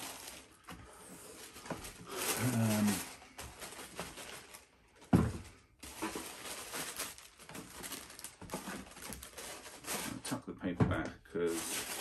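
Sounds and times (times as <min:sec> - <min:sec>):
paper rustling and crinkling: 0:00.0 - 0:10.4, 0:11.4 - 0:12.0.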